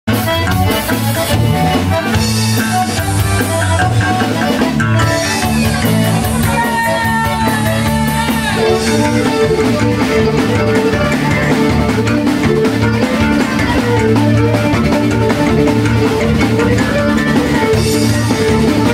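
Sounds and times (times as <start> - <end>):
button accordion: 0.1 - 18.9
drum kit: 0.1 - 18.9
electric bass guitar: 0.1 - 18.9
fiddle: 0.5 - 18.9.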